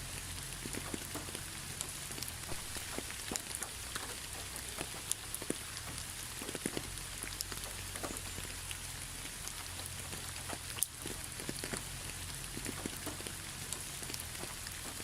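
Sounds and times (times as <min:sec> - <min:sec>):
rain drops ticking on hard surface: 0:00.0 - 0:15.0
steady rain hiss: 0:00.0 - 0:15.0.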